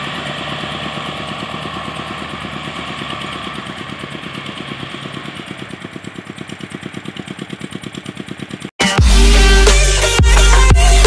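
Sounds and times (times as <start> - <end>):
tractor diesel engines: 0.0 - 11.0.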